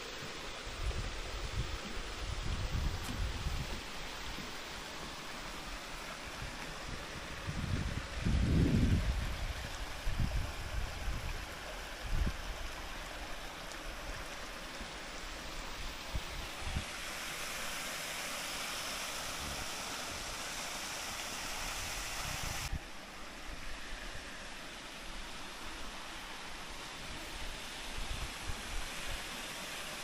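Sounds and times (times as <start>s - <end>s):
water rushing over rocks: 0.0s - 30.0s
water spilling from dam: 0.0s - 30.0s.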